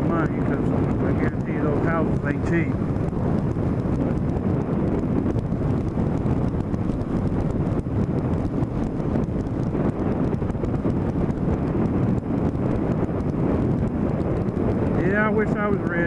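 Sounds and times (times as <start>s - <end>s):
motorcycle engine: 0.0s - 15.8s
road noise: 0.0s - 16.0s
wind buffeting microphone: 0.0s - 16.0s.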